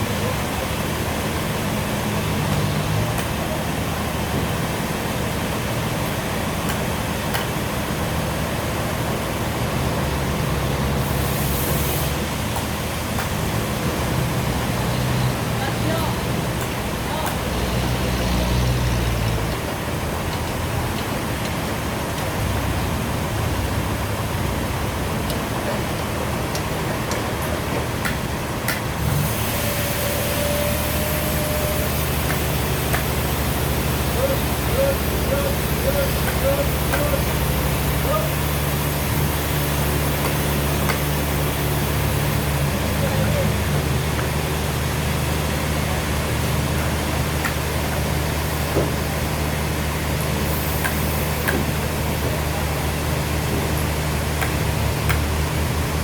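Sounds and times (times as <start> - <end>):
engine pulsing low: 0.0 - 56.0
sawmill machinery running: 0.0 - 56.0.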